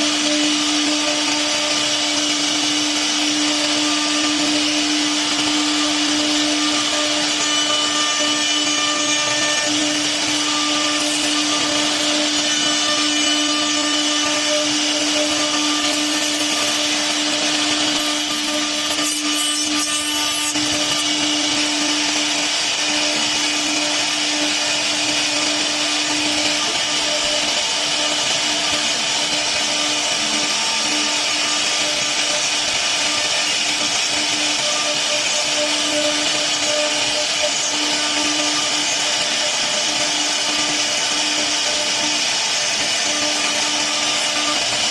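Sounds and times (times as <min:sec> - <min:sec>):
wood router spindle whining: 0:00.0 - 0:44.9.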